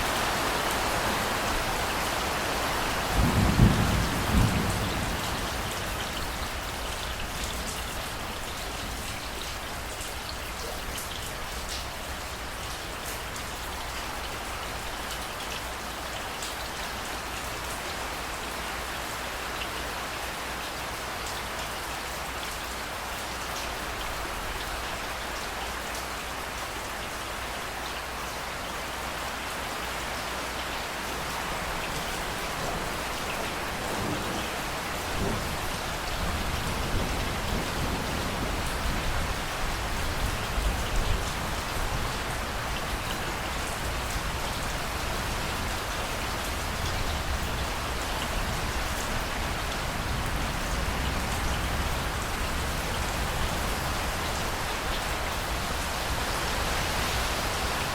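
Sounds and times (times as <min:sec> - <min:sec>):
rain pattering on surfaces: 0:00.0 - 0:57.9.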